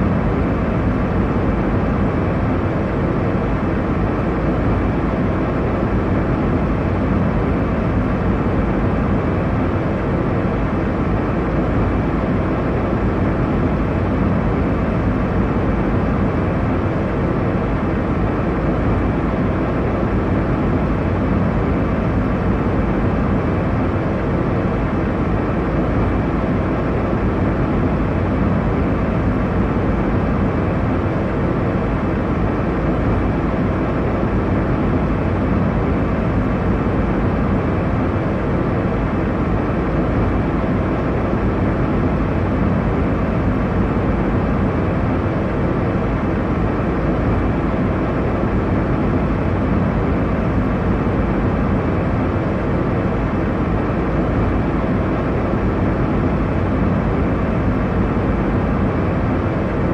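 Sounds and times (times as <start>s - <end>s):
airliner cabin engine hum: 0.0s - 59.9s.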